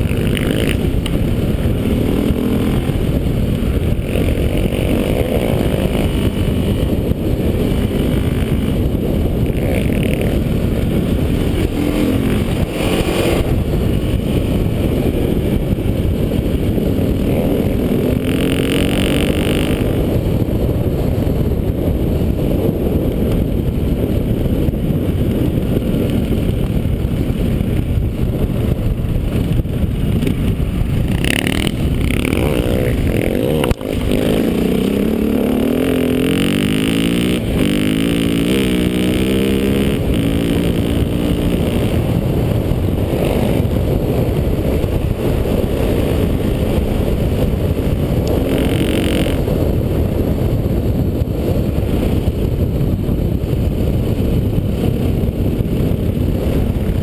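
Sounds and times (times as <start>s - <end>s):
dirt bike engine accelerating: 0.0s - 57.0s
wind noise on microphone: 0.0s - 57.0s.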